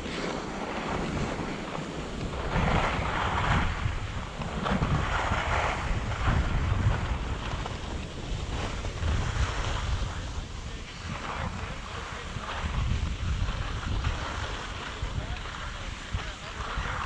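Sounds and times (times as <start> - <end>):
skis scraping on snow: 0.0 - 17.0
wind buffeting a microphone: 0.0 - 17.0.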